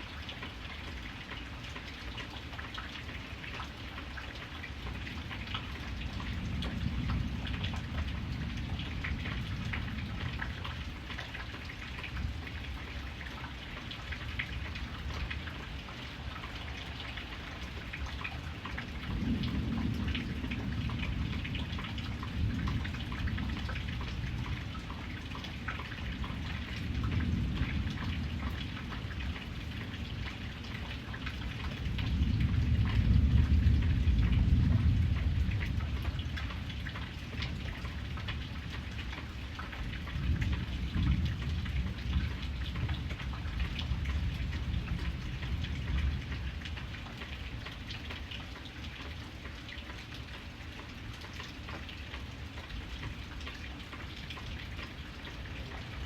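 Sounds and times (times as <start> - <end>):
rain drops ticking on a surface: 0.0 - 56.0.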